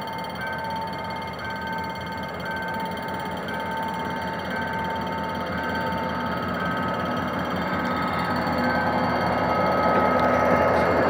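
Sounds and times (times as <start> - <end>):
diesel locomotive rumble: 0.0 - 11.0
level crossing warning tones: 0.0 - 11.0.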